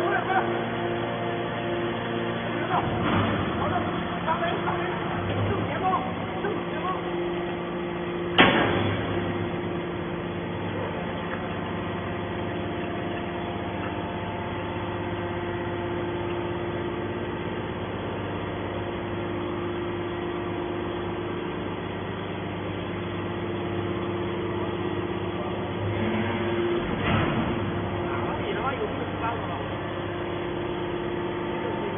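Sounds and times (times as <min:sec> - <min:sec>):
hydraulic baler humming: 0:00.0 - 0:31.9.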